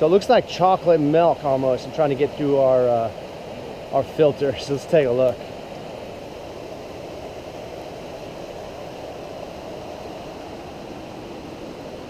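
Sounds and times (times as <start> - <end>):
fast-flowing river rushing: 0.0 - 12.0.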